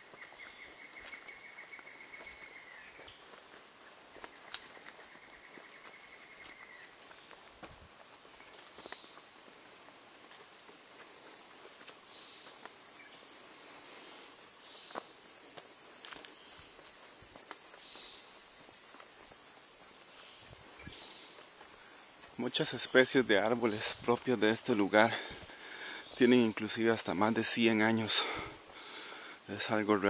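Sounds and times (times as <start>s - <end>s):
footsteps on paved trail: 0.0s - 30.0s
insect chorus buzzing: 0.0s - 30.0s
rapid pulsed insect trills: 0.0s - 30.0s.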